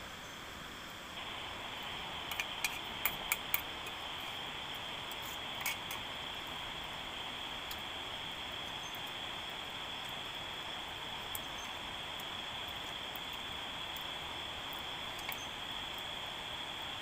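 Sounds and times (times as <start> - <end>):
high-pitched insect buzz: 1.2 - 17.0.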